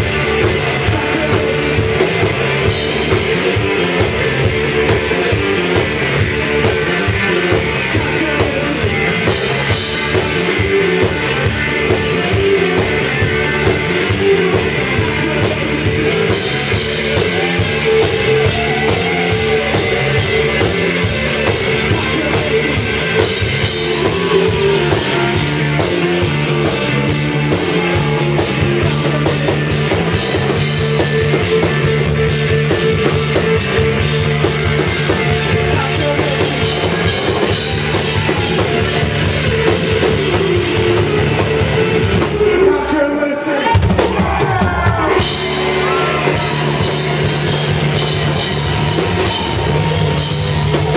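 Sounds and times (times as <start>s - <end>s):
drum kit beat: 0.0s - 50.9s
electric guitars: 0.0s - 50.9s.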